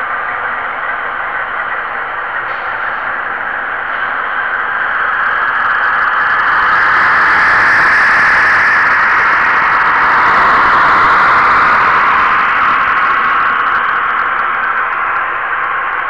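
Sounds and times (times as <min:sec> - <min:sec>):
model train rattling past: 0:00.0 - 0:16.0.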